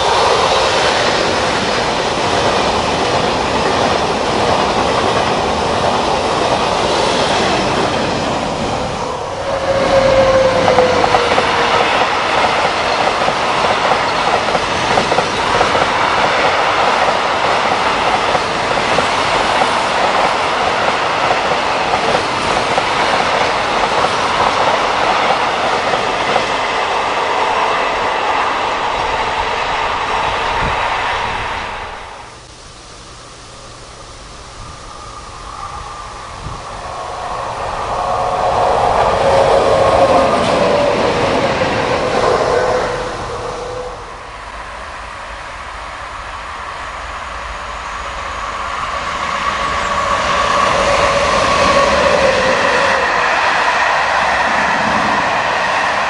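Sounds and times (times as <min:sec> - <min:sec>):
freight train wheel-on-rail noise: 0:00.0 - 0:56.0
high-speed train passing: 0:00.0 - 0:56.0.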